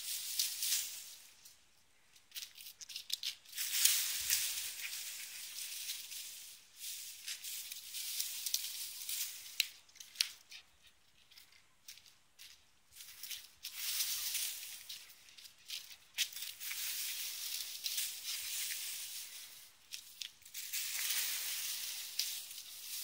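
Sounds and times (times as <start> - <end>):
leaves rustling: 0.0 - 23.0
twigs crackling: 0.0 - 23.0.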